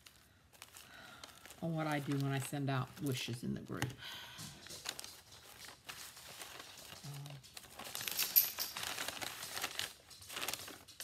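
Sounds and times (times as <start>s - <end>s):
paper packaging rustling: 0.0s - 11.0s.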